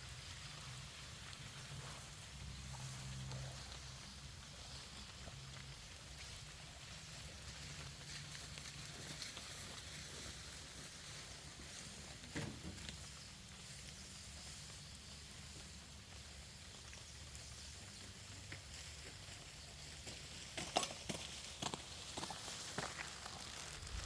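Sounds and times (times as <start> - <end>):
sickle cutting grass: 0.0 - 24.0.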